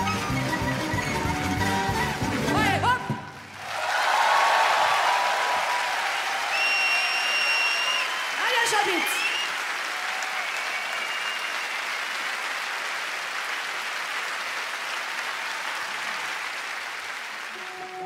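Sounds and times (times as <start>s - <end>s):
audience applauding: 3.2s - 18.0s.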